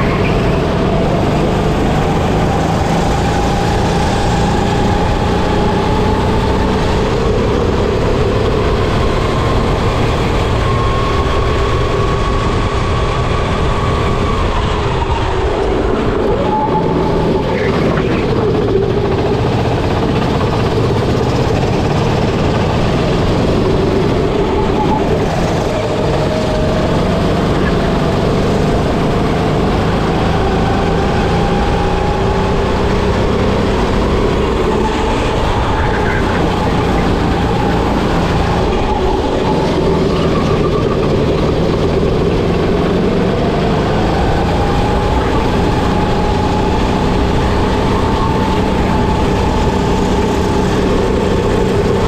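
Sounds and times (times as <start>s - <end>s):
racing kart engine: 0.0s - 52.0s.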